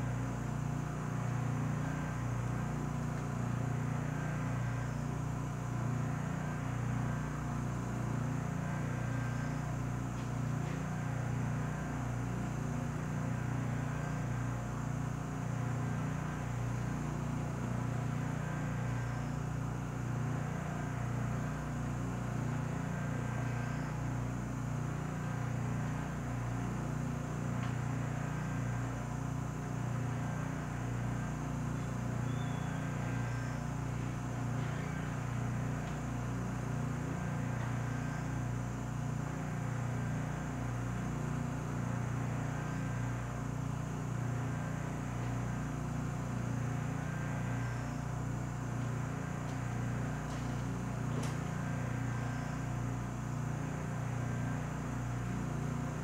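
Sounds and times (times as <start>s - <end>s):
furnace machine hum: 0.0s - 56.0s.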